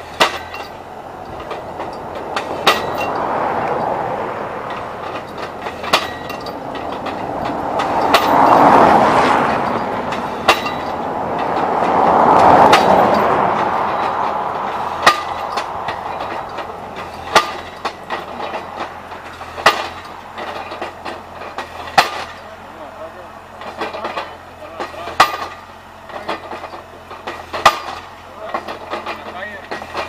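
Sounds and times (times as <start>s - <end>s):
pile driver machine running: 0.0s - 30.0s
sharp metal clanks: 0.0s - 30.0s.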